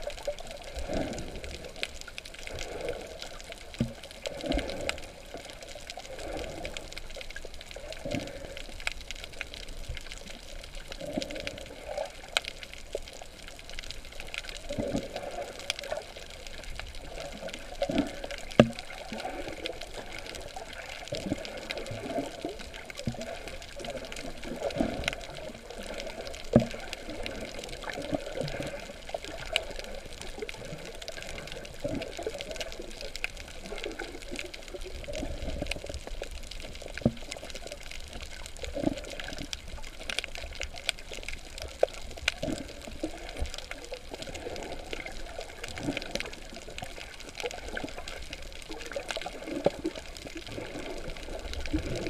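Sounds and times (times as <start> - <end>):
water sloshing and bubbling: 0.0 - 52.0.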